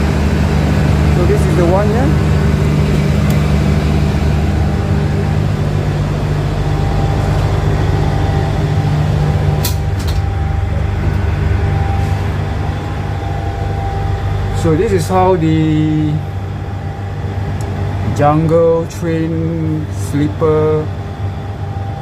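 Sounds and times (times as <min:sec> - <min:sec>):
diesel train engine idling: 0:00.0 - 0:22.0.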